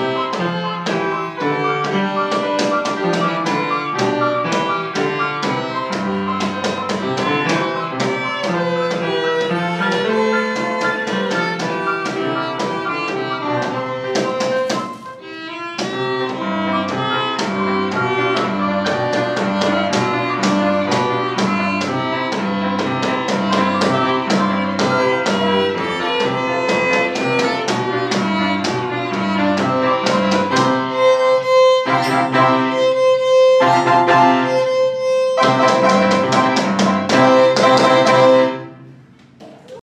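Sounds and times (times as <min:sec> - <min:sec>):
steady beat: 0:00.0 - 0:38.6
violin and piano playing: 0:00.0 - 0:38.9.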